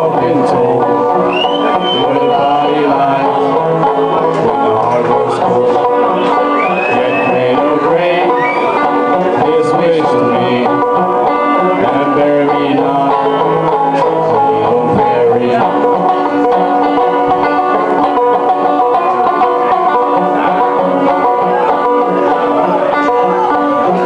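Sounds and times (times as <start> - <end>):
banjos playing picked notes: 0.0 - 24.0.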